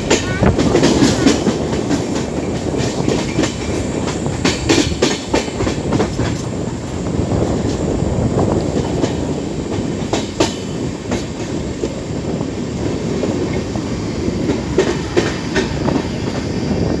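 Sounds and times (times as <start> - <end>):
train wheels rumbling on rail: 0.0 - 17.0
wheels clacking over rail joints: 0.0 - 17.0.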